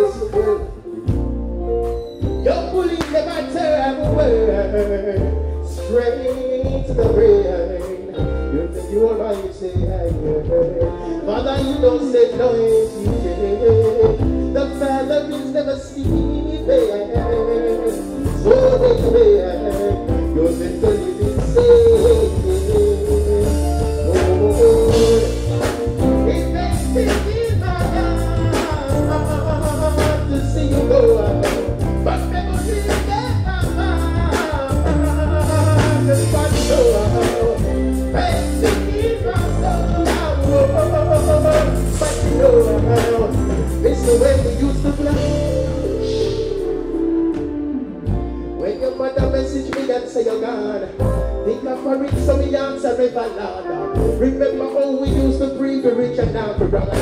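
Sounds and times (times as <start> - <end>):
man singing into a microphone: 0.0 - 1.2, 2.2 - 47.9, 48.6 - 57.0
live band playing: 0.0 - 57.0.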